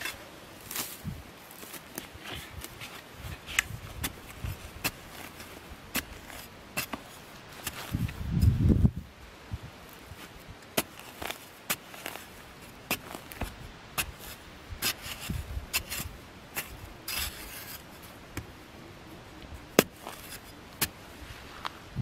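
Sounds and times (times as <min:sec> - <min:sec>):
metal spade scraping soil: 0:00.0 - 0:08.6, 0:09.9 - 0:18.6, 0:19.7 - 0:21.8.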